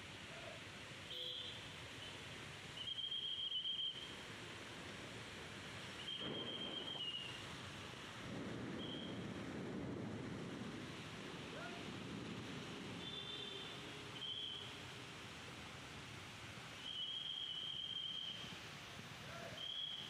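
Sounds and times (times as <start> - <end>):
heavy rain: 0.0 - 20.0
wind: 0.0 - 20.0.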